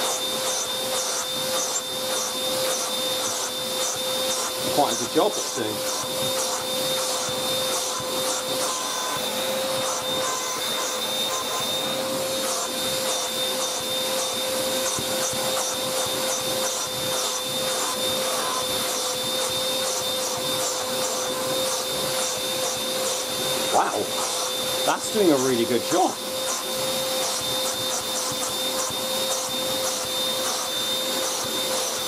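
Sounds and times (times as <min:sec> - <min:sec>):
handheld vacuum motor whine: 0:00.0 - 0:32.0
hose scratching on carpet: 0:00.1 - 0:32.0.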